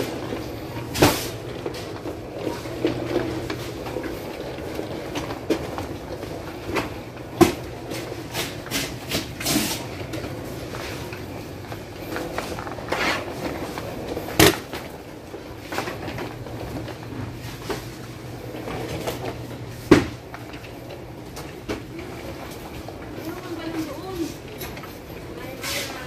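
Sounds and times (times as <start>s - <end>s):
supermarket background noise: 0.0s - 26.0s.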